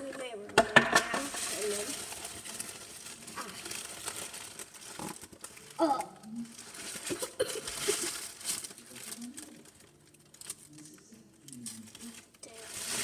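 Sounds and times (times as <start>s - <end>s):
rustling and crinkling handling: 0.0s - 13.0s.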